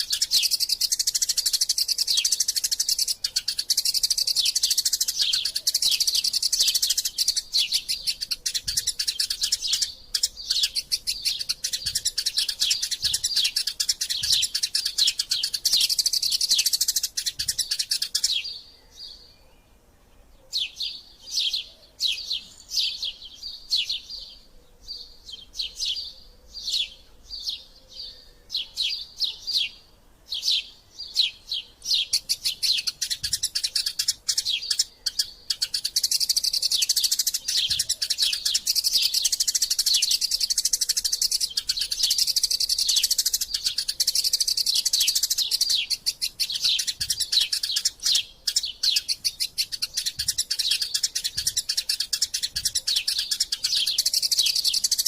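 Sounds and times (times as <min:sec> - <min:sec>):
high bird chirps: 0:00.0 - 0:55.0
sparrows chattering: 0:00.0 - 0:55.0.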